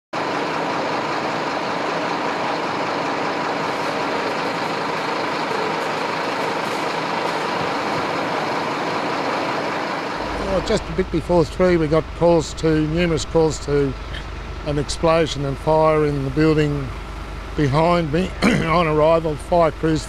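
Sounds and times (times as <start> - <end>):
fire truck engine running: 0.2 - 20.0
constant hiss: 2.9 - 20.0.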